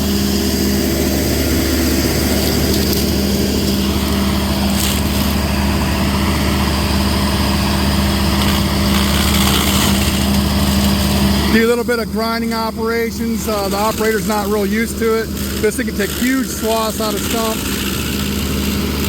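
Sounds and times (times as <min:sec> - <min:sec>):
diesel engine running: 0:00.0 - 0:19.0
stump grinder cutter wheel spinning: 0:00.0 - 0:19.0.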